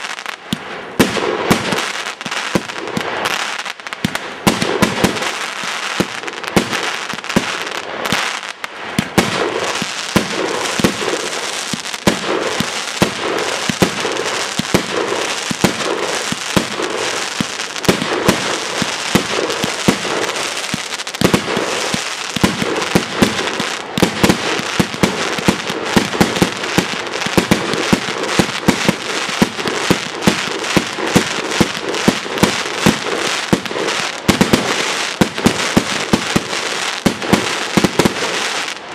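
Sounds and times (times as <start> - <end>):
fireworks bangs: 0.0 - 38.9
fireworks crackling: 0.0 - 38.9.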